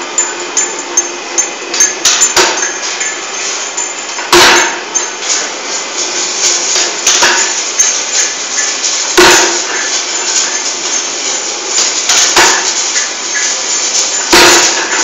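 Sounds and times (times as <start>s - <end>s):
cutting machine metallic clatter: 0.0s - 15.0s.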